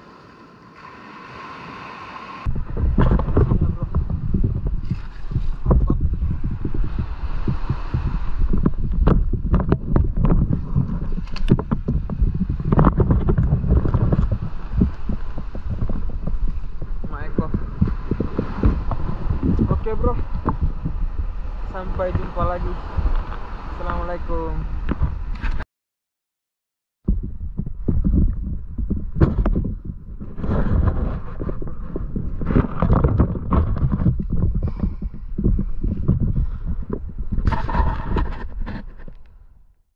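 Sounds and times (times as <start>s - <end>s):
wind buffeting microphone: 2.4s - 25.6s, 27.0s - 39.7s.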